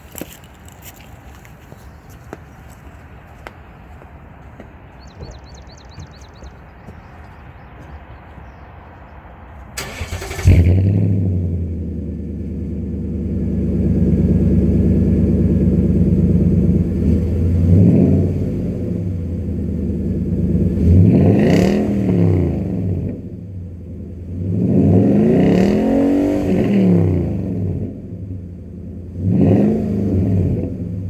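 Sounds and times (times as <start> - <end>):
truck engine idling and revving: 5.2 - 31.0.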